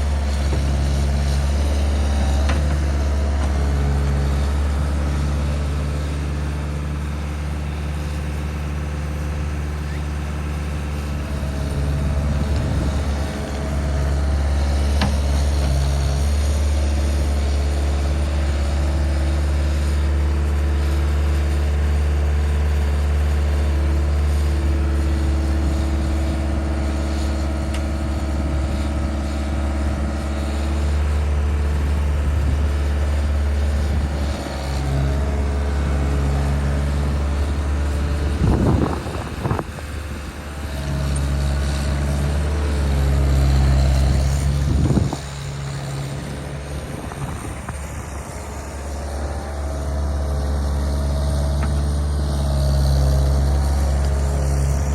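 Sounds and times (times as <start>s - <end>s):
skid steer engine running: 0.0s - 54.9s.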